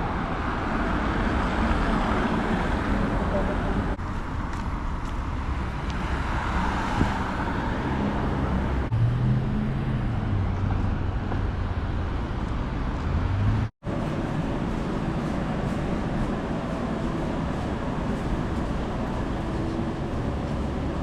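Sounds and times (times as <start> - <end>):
street traffic: 0.0 - 21.0
vehicle engine running nearby: 0.0 - 21.0.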